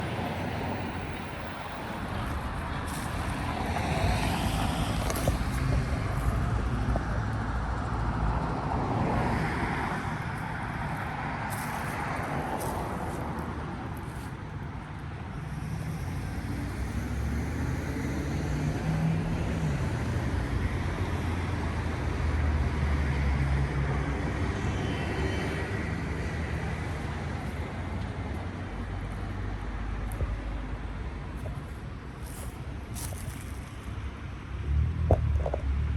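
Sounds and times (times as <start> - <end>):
cars passing by: 0.0 - 35.9
low traffic rumble: 0.0 - 35.9.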